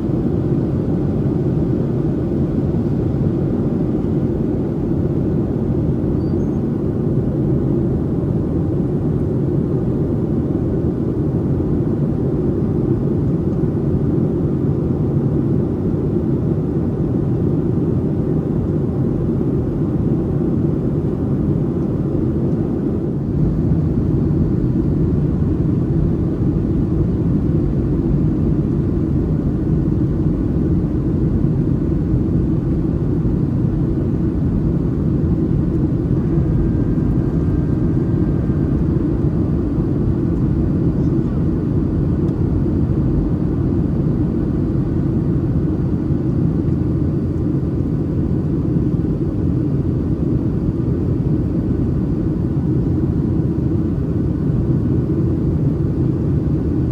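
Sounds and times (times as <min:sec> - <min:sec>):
airplane cabin engine rumble: 0:00.0 - 0:56.9.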